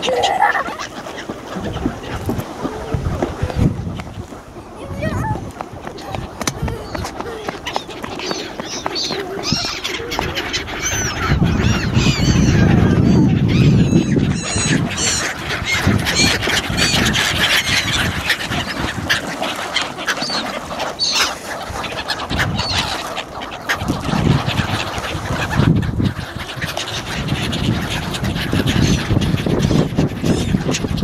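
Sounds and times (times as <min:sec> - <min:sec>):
flock of birds calling: 0:00.0 - 0:31.0.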